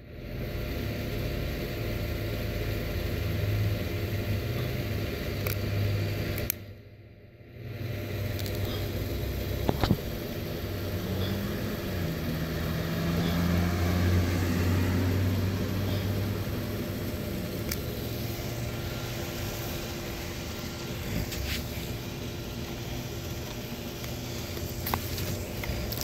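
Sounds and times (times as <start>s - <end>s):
vehicle engine humming: 0.1s - 6.7s, 7.5s - 26.0s.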